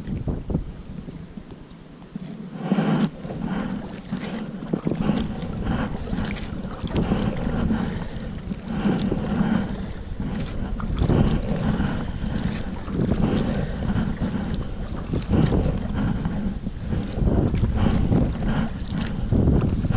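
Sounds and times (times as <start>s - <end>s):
water splashing against kayak: 0.0s - 19.9s
wind buffeting microphone: 0.0s - 19.9s.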